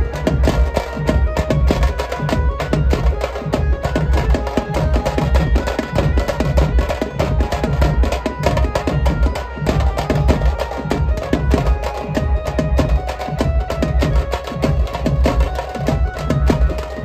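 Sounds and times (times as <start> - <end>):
street procession band music: 0.0 - 17.0.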